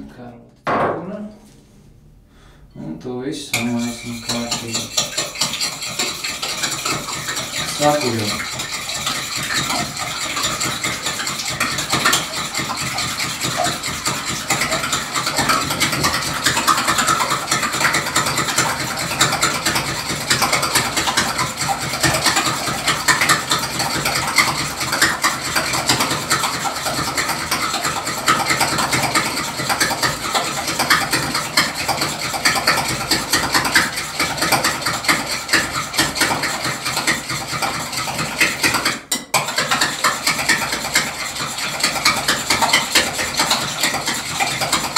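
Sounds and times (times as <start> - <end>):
fork beating in a glass bowl: 3.5 - 35.0, 35.6 - 44.9.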